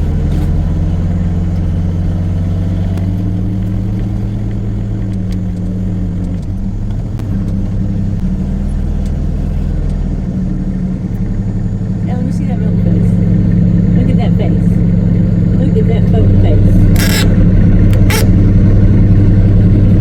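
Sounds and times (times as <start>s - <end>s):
utility vehicle engine idling: 0.0s - 20.0s.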